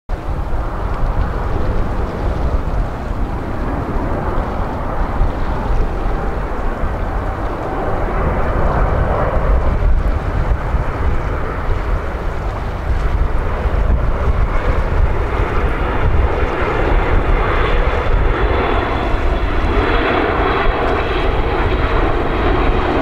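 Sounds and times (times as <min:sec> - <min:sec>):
jet engines roaring: 0:00.1 - 0:23.0
wind buffeting microphone: 0:00.1 - 0:23.0.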